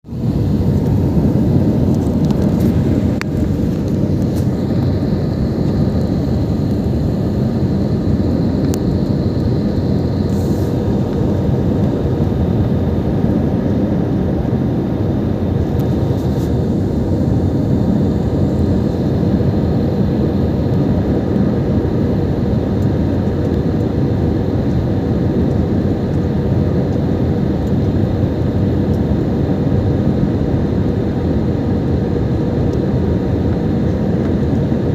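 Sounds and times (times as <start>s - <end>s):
airliner engine rushing: 0.0s - 34.9s.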